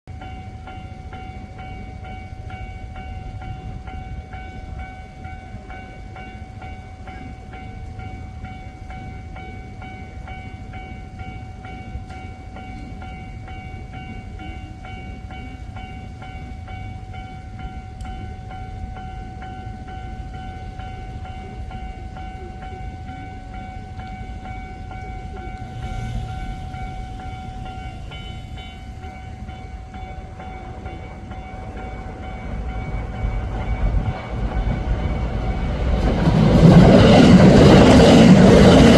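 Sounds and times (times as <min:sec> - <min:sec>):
electric trains rumbling: 0:00.1 - 0:38.9
level-crossing warning bell: 0:00.1 - 0:38.9.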